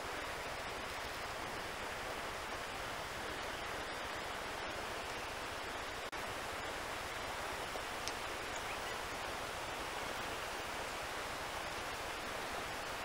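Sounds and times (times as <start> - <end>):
fast river rushing: 0.0 - 13.0.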